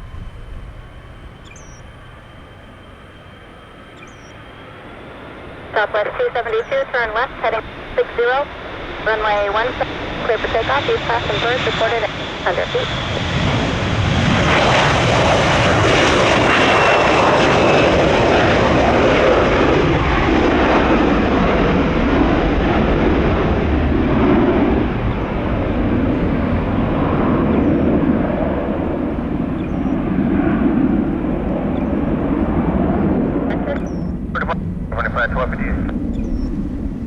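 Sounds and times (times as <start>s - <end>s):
jet engine whine: 0.0s - 37.0s
jet engines roaring: 0.0s - 37.0s.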